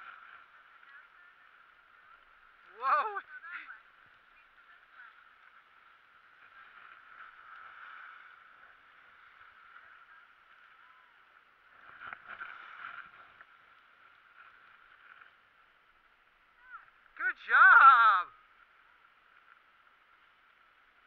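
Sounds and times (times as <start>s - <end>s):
skis scraping over snow: 0.0s - 17.8s.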